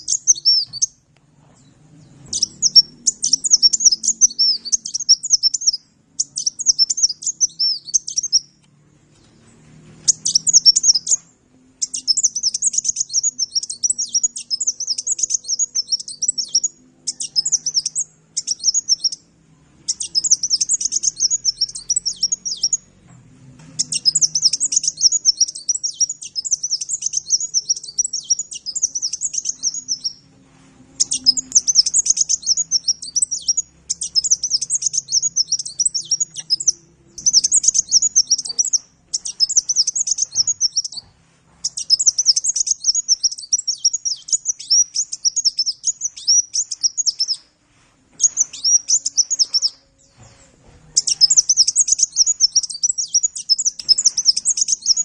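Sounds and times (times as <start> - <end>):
sunbird twittering song: 0.0 - 1.0, 1.6 - 8.6, 9.2 - 19.2, 19.8 - 22.9, 23.8 - 30.2, 31.0 - 47.5, 48.2 - 55.0.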